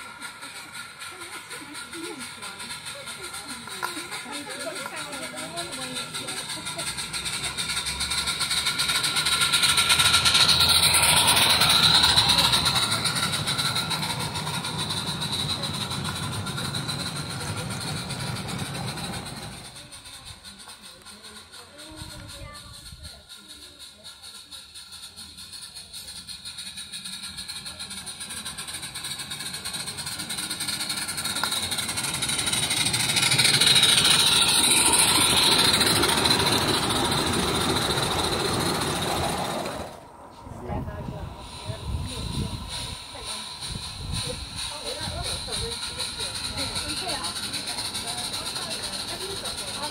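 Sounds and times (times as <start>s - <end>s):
model steam locomotive exhaust beat: 0.0s - 49.9s
wheels rumbling on rails: 0.0s - 49.9s
fast fine clicking: 0.2s - 40.0s, 41.8s - 49.9s.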